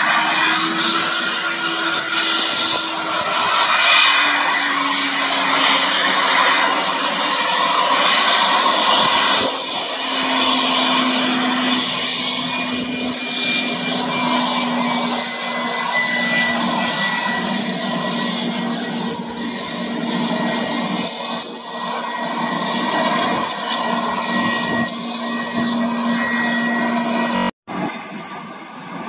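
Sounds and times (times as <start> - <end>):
jet engines taxiing past: 0.0 - 29.0.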